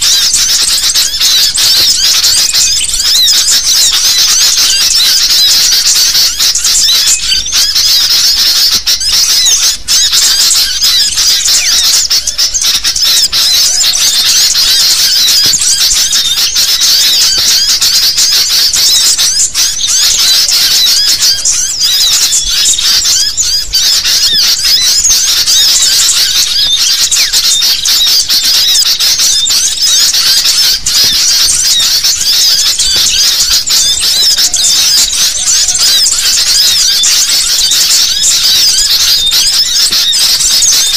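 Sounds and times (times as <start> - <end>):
chorus of birds chattering: 0.0 - 40.9.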